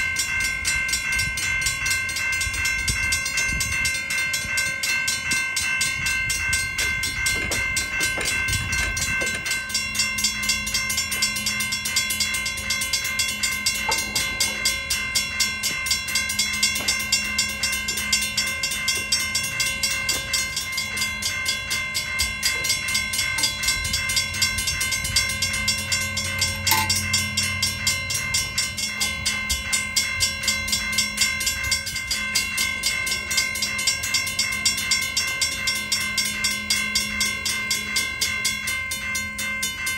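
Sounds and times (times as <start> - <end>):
railroad crossing bell ringing: 0.0 - 39.9.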